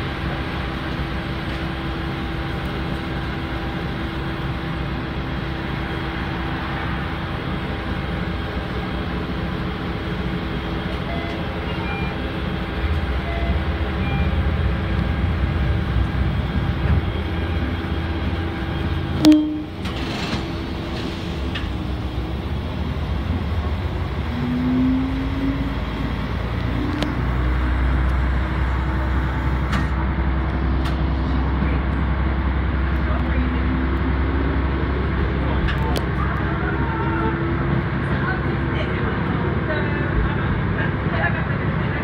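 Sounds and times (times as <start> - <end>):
railcar engine rumbling: 0.0 - 42.0
wheel and rail noise: 0.0 - 42.0.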